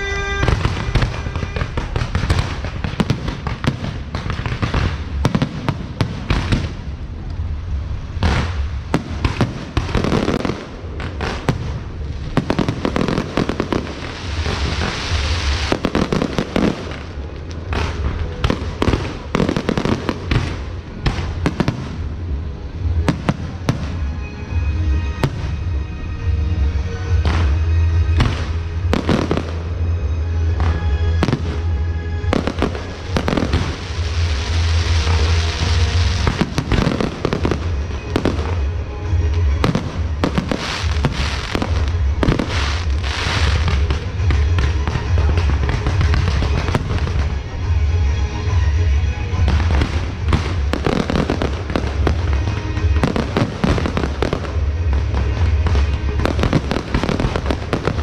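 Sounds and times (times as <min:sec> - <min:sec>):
firework bangs: 0:00.0 - 0:25.7, 0:27.1 - 0:47.9, 0:49.3 - 0:58.0
hissing firecracker crackle: 0:00.0 - 0:25.7, 0:30.6 - 0:47.9, 0:49.3 - 0:58.0
music with low bass: 0:00.0 - 0:58.0.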